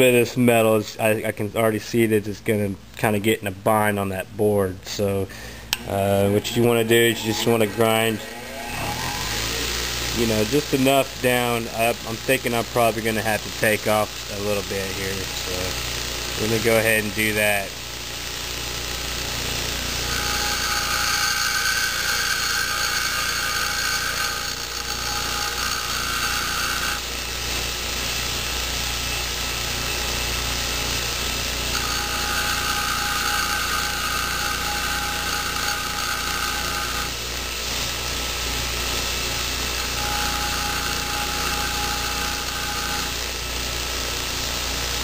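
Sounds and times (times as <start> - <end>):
bench grinder motor hum: 5.5 - 45.0.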